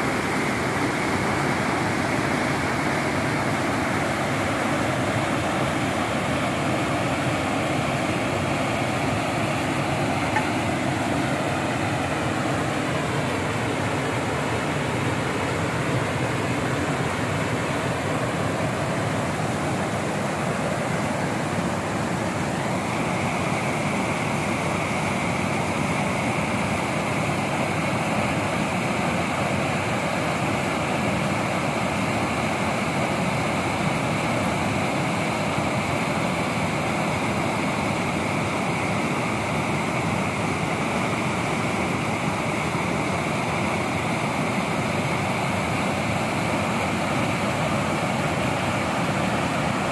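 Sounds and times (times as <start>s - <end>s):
high hiss: 0.0s - 49.9s
river water rushing over rapids: 0.0s - 49.9s.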